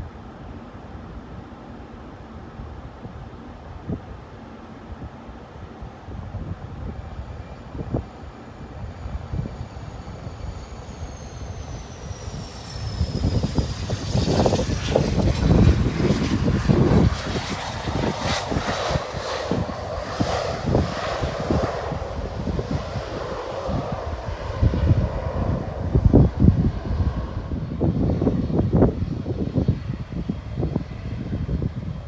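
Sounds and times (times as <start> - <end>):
low jet rumble: 5.0 - 32.0
jet engine whine passing: 6.3 - 32.0.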